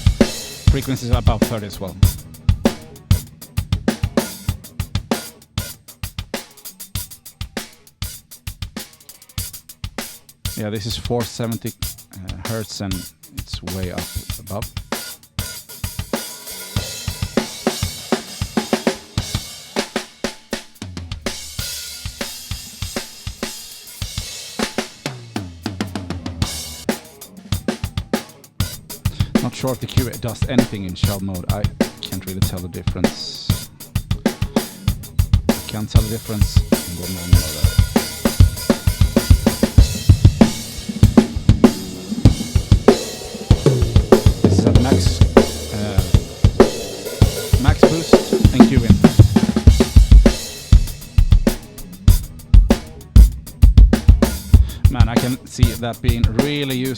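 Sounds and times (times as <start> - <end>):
drum kit playing: 0.0 - 56.9.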